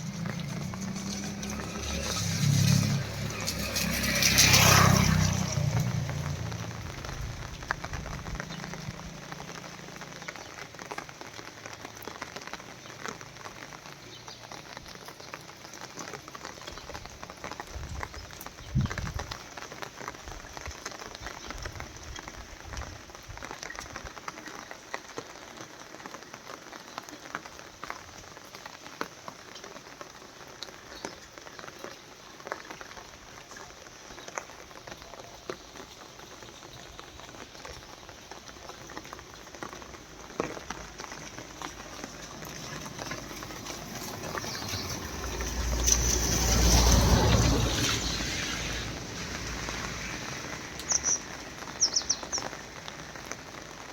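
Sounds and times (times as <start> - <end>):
rain falling: 0.0 - 53.9
water drips: 0.0 - 53.9.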